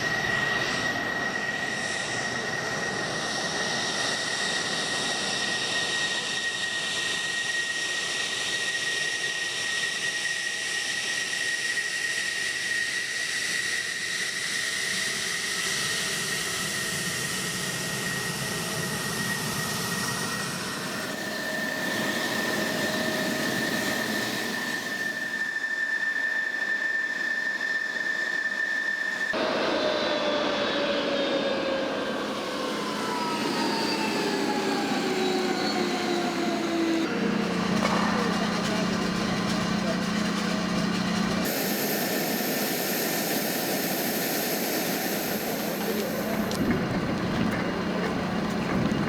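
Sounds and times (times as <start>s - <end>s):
jet engines whining: 0.0s - 49.0s.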